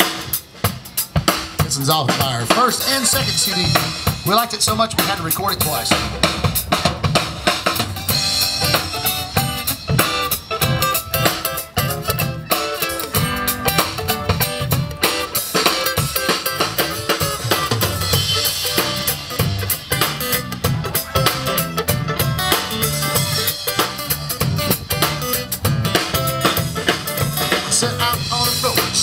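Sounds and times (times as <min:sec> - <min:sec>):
country band playing: 0:00.0 - 0:29.0
drum kit beat: 0:00.0 - 0:29.0.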